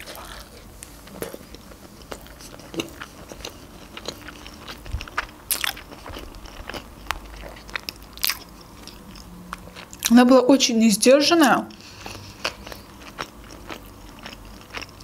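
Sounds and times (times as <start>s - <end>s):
wet chewing crunches: 0.0s - 10.2s, 11.8s - 15.0s.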